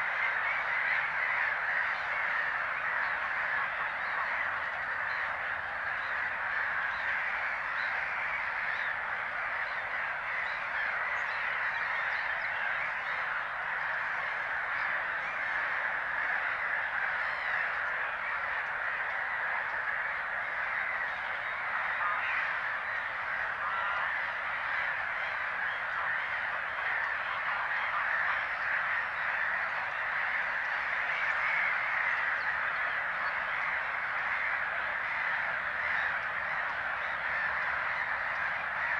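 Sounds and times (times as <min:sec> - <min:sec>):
gulls calling in chorus: 0:00.0 - 0:38.9.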